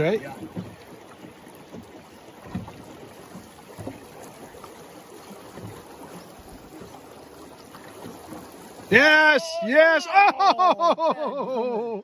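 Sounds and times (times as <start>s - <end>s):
river water lapping on boat hull: 0.0s - 11.8s.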